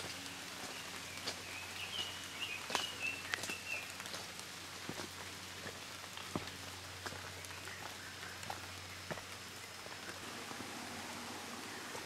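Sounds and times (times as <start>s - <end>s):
rain drop ticks: 0.0s - 10.3s
rain pattering on foliage: 0.0s - 12.0s.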